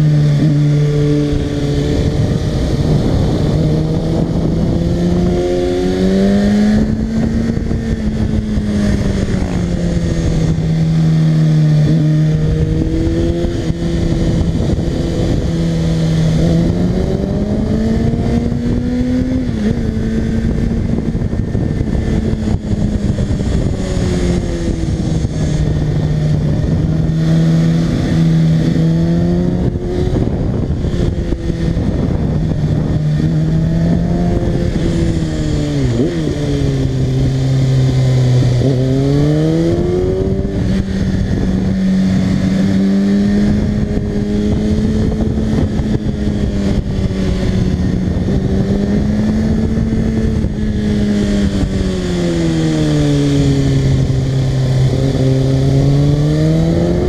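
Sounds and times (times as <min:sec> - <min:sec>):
motorcycle engine revving: 0:00.0 - 0:57.0
wind rush: 0:00.0 - 0:57.0.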